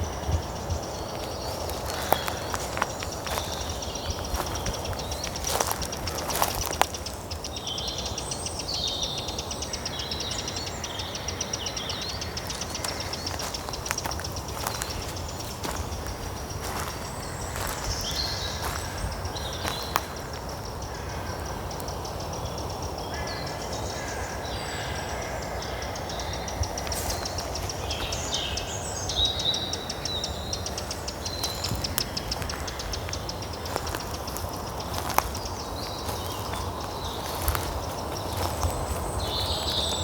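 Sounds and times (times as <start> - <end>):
small birds chirping and trilling: 0.0 - 40.0.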